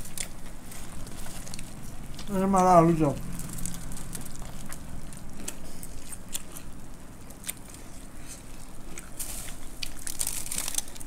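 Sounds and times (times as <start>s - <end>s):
crisp snacks crackling and chewed: 0.0s - 11.0s.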